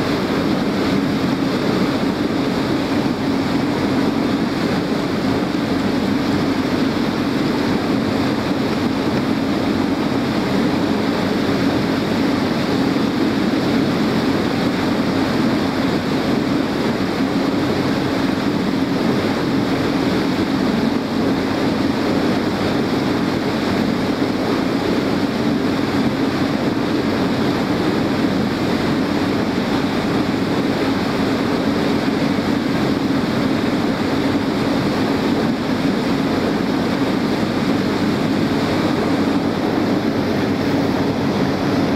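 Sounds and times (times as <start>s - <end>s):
boat engine droning: 0.0s - 41.9s
water rushing: 0.0s - 41.9s
wind: 0.0s - 41.9s.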